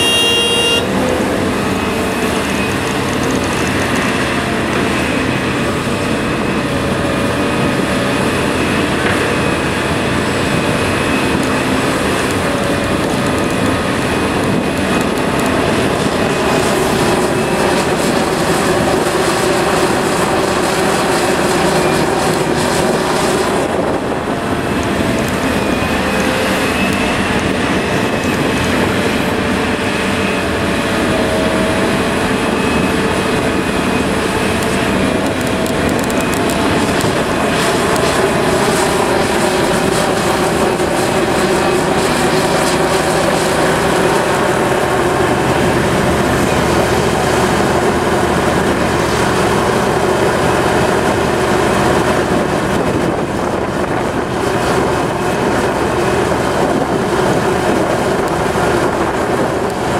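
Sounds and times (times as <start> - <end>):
dump trucks: 0.0 - 59.9
excavator engine and hydraulics: 0.0 - 59.9.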